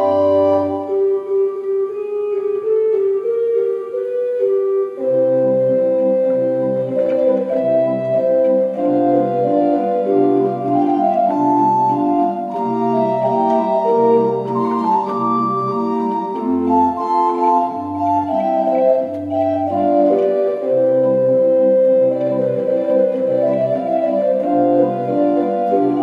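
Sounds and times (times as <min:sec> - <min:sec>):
pipe organ playing slow piece: 0:00.0 - 0:26.0.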